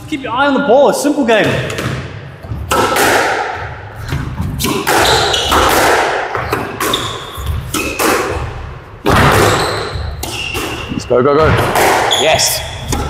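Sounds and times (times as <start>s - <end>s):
ball hitting court walls: 1.4s - 13.0s
racket hitting squash ball: 1.4s - 13.0s.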